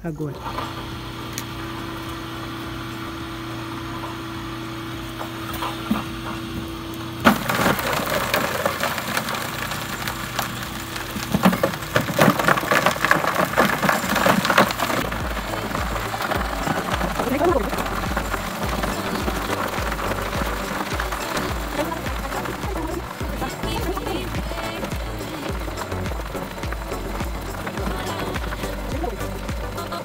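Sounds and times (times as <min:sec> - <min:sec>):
electric motor humming: 0:00.1 - 0:30.0.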